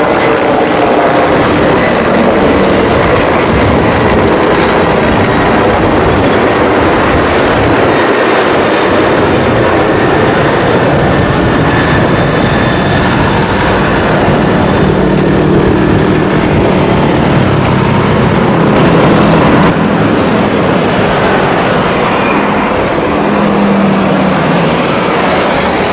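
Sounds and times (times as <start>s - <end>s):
helicopter rotor beating: 0.0s - 25.9s.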